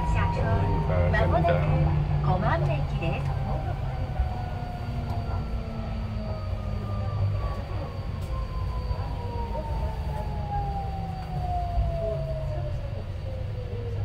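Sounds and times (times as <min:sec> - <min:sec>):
train motors whining down: 0:00.0 - 0:14.0
wheels rumbling on rail: 0:00.0 - 0:14.0.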